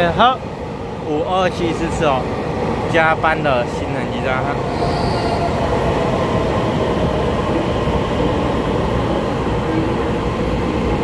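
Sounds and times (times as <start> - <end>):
train rolling past: 0.0 - 11.0.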